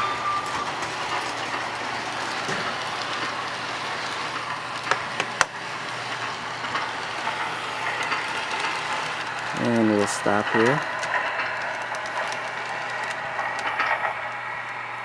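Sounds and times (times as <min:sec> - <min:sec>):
model train motor and wheels: 0:00.0 - 0:15.0.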